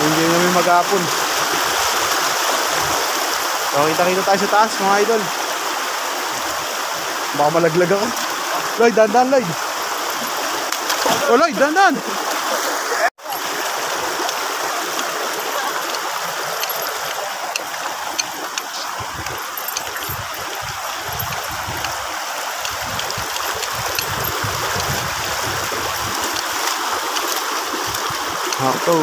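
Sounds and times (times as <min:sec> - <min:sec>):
stream rushing over boulders: 0:00.0 - 0:29.0.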